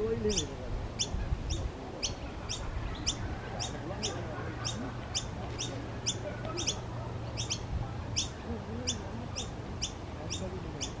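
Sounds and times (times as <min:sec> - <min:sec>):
bird giving sharp high chirps: 0:00.3 - 0:11.0.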